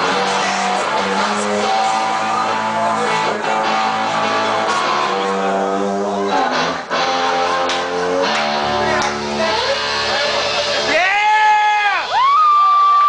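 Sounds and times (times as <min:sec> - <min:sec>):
electric guitar long notes: 0:00.0 - 0:12.8
live rock band: 0:00.0 - 0:13.0.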